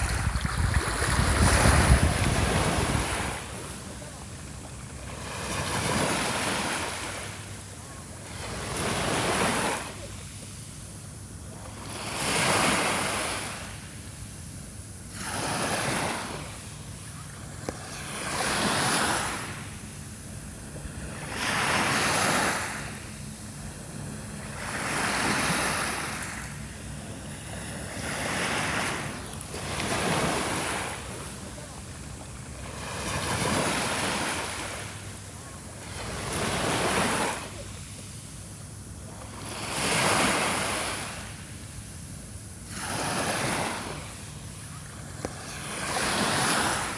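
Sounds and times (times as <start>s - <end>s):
gentle sea waves on shore: 0.0s - 46.9s.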